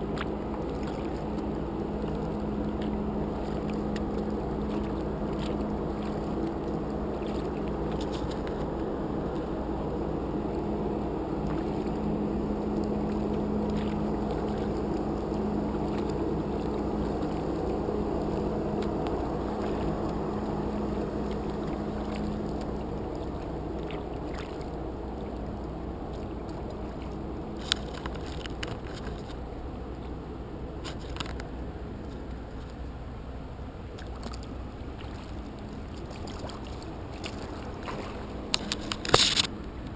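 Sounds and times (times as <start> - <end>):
constant machine tone: 0.0 - 39.9
ferry machinery humming: 0.0 - 39.9
splashes: 0.0 - 39.9
water lapping: 0.0 - 39.9.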